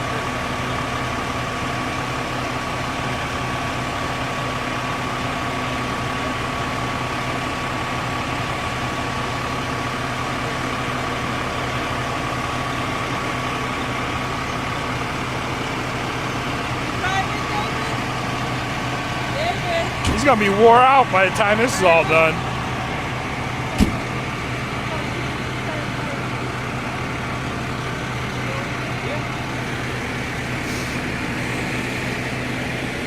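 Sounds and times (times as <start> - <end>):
fire truck engine idling: 0.0 - 33.0.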